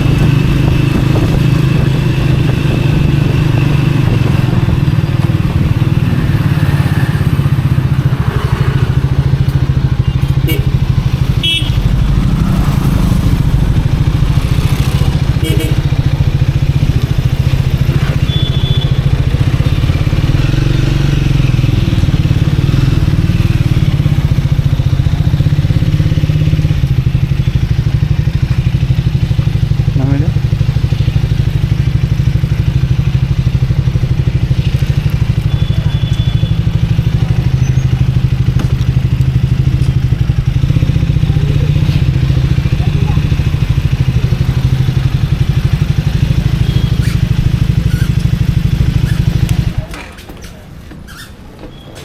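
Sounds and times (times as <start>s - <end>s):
motorcycle engine running: 0.0s - 51.8s.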